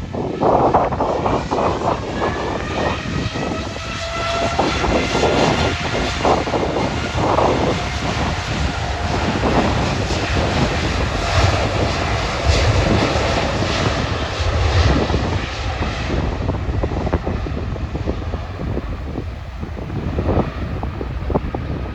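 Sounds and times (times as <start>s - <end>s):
jet engines rumbling: 0.0s - 21.9s
wind buffeting microphone: 0.0s - 21.9s.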